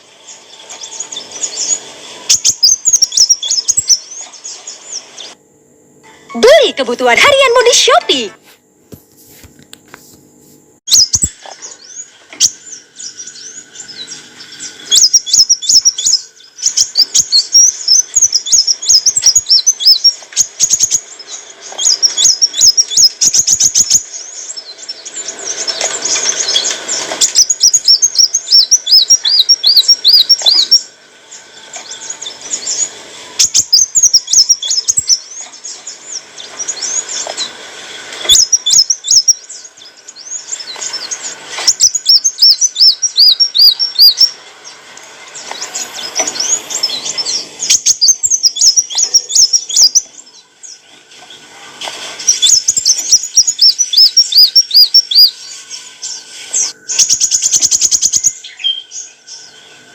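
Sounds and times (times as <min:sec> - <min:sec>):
bird twittering and trilling: 0:00.0 - 0:05.4, 0:10.9 - 0:59.9.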